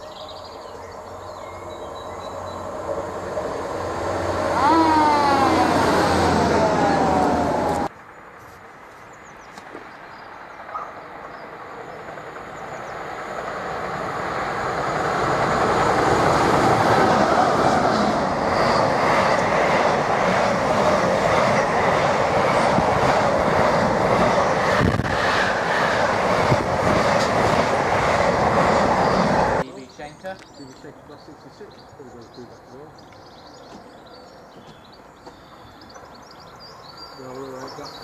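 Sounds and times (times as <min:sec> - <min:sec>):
train passing: 0:00.0 - 0:38.0.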